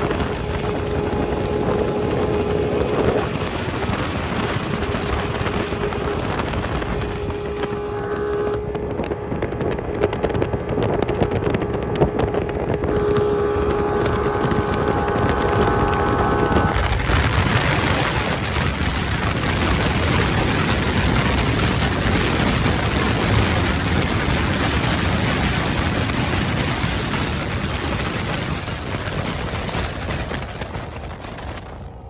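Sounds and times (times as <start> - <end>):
rushing wind and spray: 0.0 - 32.0
speedboat engine: 0.0 - 32.0.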